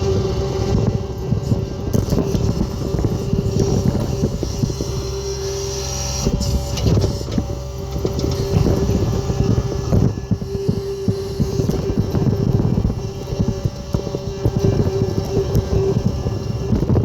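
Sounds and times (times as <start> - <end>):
held tone: 0.0 - 17.0
skid steer engine drone: 0.0 - 17.0.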